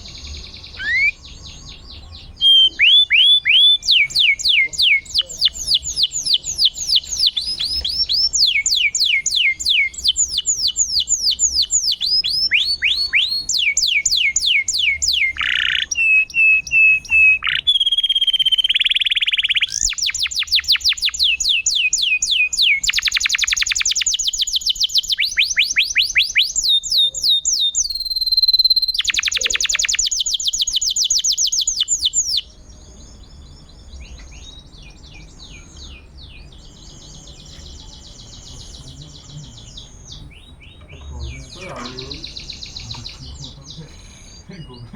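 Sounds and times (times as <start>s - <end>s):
canary singing trills: 0.0s - 44.9s
faint chirping: 0.0s - 44.9s.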